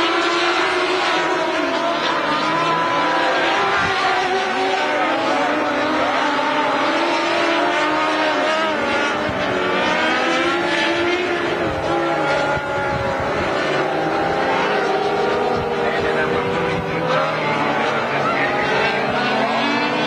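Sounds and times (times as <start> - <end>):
high-revving race car engines: 0.0 - 20.0.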